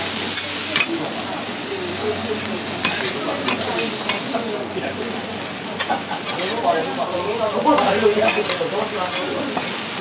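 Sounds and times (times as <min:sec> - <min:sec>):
food sizzling on griddle: 0:00.0 - 0:10.0.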